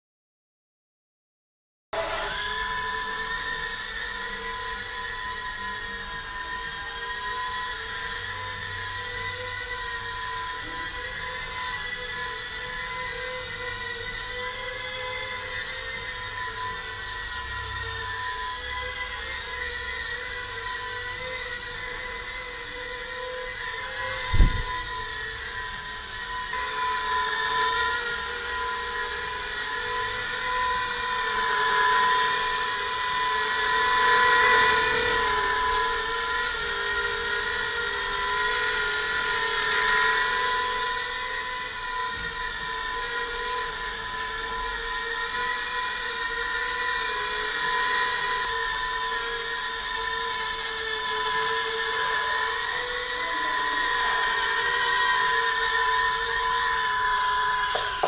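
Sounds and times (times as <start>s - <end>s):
drone motors whining: 2.0s - 58.0s.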